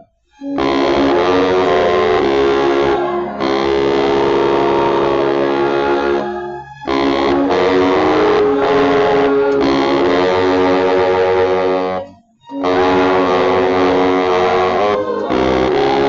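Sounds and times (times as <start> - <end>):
baritone saxophone growling: 0.4 - 16.0.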